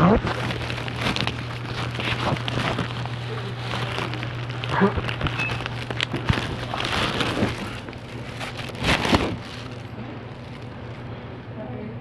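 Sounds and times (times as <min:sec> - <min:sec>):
rustling and crackling: 0:00.0 - 0:11.2
steady low hum: 0:00.0 - 0:12.0.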